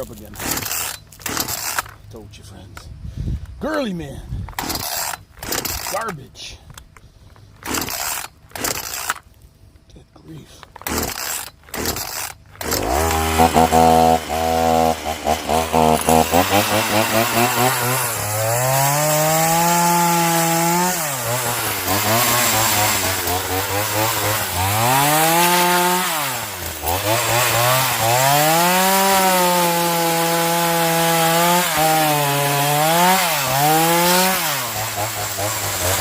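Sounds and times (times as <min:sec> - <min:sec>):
chainsaw engine revving: 0:00.2 - 0:02.0, 0:04.6 - 0:06.1, 0:07.6 - 0:09.2, 0:10.8 - 0:36.0.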